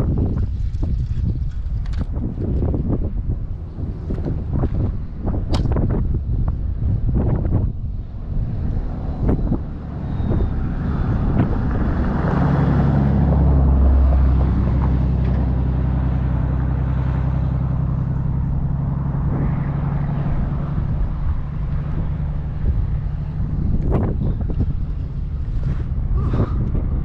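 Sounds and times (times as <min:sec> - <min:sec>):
boat engine running: 0:00.0 - 0:27.0
wind buffeting microphone: 0:00.0 - 0:27.0.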